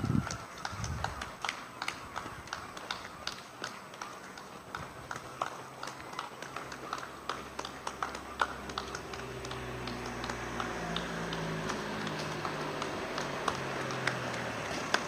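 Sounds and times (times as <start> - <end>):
people clapping: 0.0 - 15.0
vehicle engine hum: 0.0 - 15.0.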